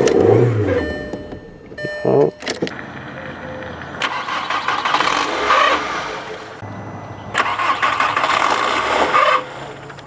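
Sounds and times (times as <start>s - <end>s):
car engine starting and dying: 0.0s - 10.0s.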